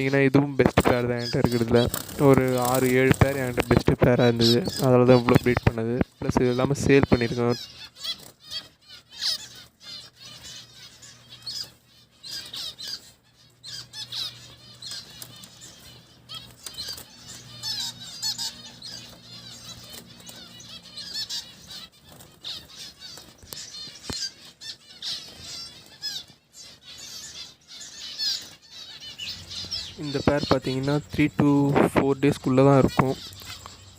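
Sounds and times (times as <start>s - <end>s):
finches chirping: 0.0s - 33.9s.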